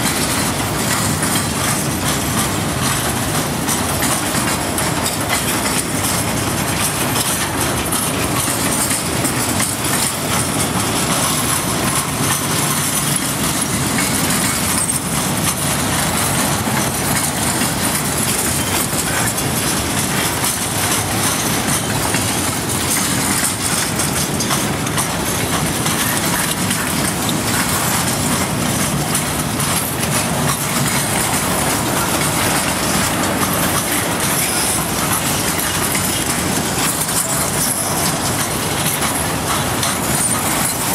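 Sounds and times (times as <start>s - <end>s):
steel train wheels on rails: 0.0s - 40.9s.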